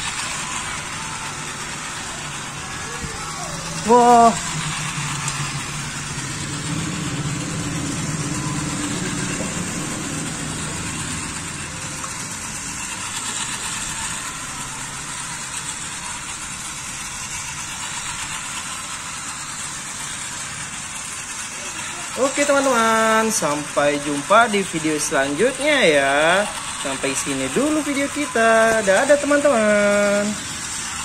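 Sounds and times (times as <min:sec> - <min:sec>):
toy trains whirring on track: 0:00.0 - 0:31.0.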